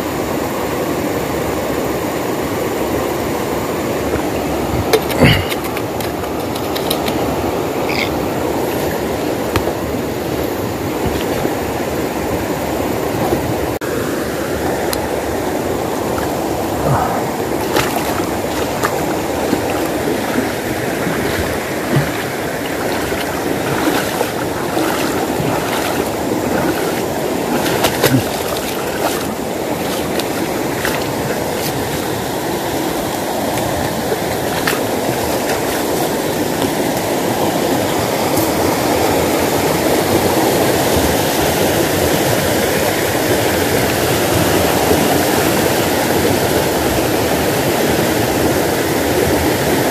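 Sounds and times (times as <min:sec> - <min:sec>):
stream rushing over stones: 0:00.0 - 0:49.9.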